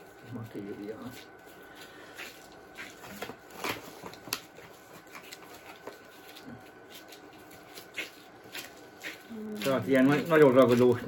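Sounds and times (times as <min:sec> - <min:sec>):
hands kneading sticky dough: 0:00.0 - 0:11.0.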